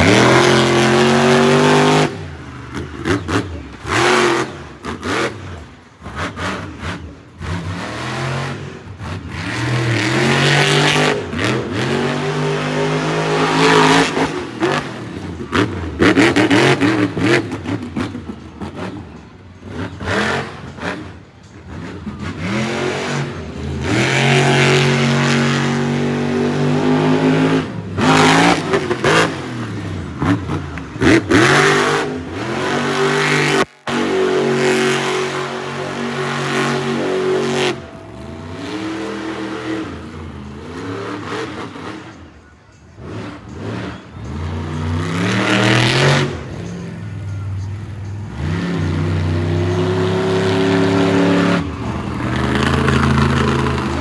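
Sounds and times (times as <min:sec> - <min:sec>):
truck engine revving hard: 0:00.0 - 0:42.4, 0:43.0 - 0:54.0.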